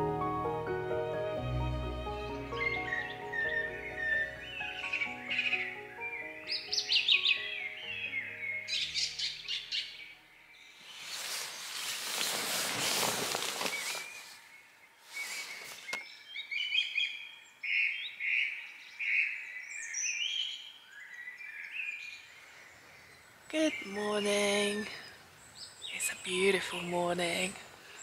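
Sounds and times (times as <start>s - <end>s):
songbirds singing: 2.2s - 28.0s.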